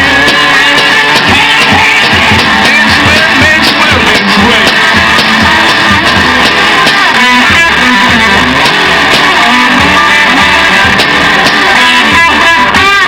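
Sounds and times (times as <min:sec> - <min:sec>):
bass notes: 0:00.0 - 0:13.0
drum hits: 0:00.0 - 0:13.0
lead guitar: 0:00.0 - 0:13.0
loud rock music: 0:00.0 - 0:13.0.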